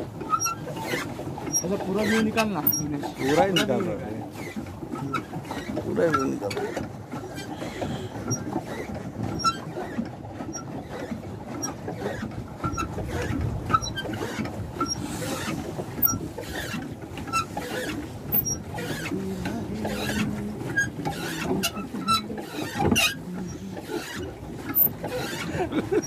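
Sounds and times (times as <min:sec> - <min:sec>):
water splashing against hull: 0:00.0 - 0:26.0.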